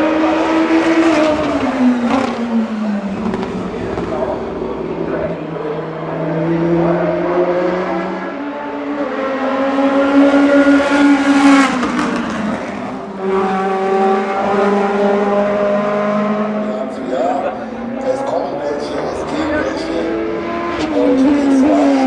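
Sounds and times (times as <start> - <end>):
race car engines at full throttle: 0.0 - 22.0.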